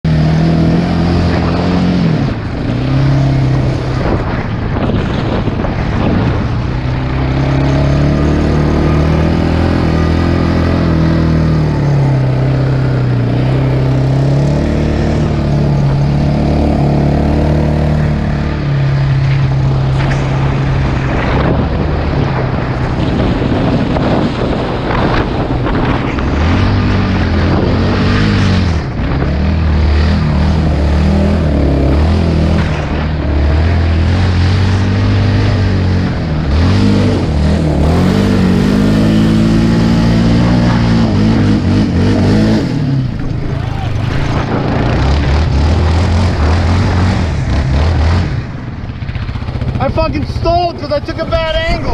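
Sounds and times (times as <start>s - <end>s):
constant rushing noise: 0.0s - 51.9s
off-road vehicle engine revving: 0.0s - 51.9s.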